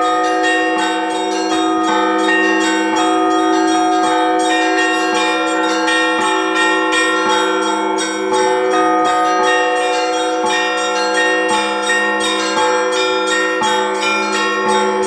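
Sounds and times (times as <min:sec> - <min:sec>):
church bells ringing in rhythm: 0:00.0 - 0:15.0
hum of large bell: 0:00.0 - 0:15.0.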